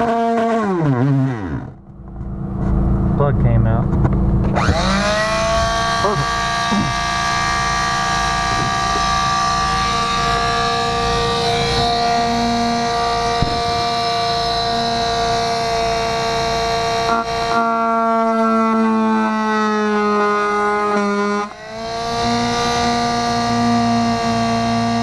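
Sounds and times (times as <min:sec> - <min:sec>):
oscillating multi-tool whining: 0:00.0 - 0:01.9, 0:04.4 - 0:25.0.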